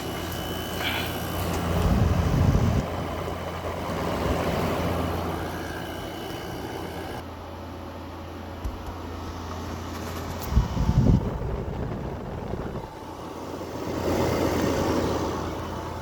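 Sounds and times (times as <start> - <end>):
air conditioner compressor hum: 0.0 - 16.0
fan rushing: 0.0 - 16.0.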